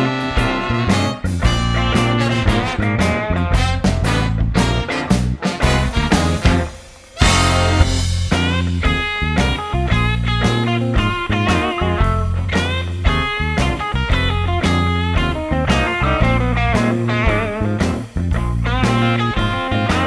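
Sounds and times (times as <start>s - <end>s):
guitar over steady beat: 0.0s - 20.0s.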